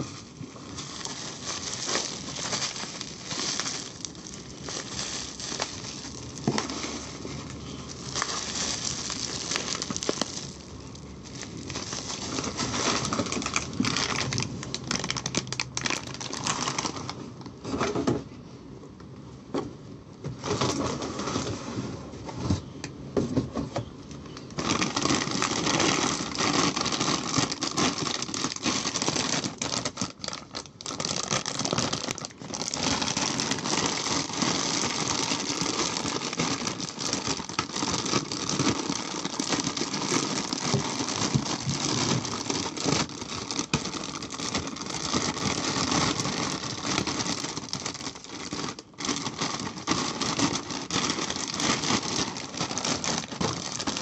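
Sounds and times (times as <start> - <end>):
packaging crinkling and tearing: 0.0 - 17.6, 24.3 - 54.0.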